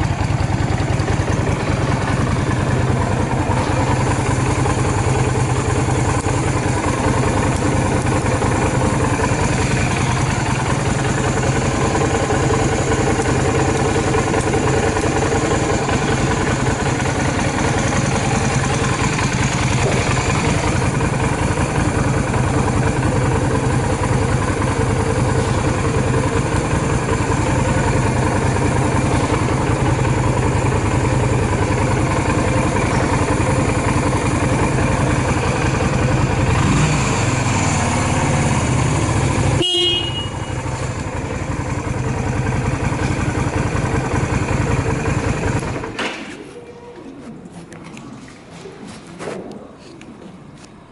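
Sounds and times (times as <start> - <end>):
motorcycle engine idling: 0.0 - 46.7.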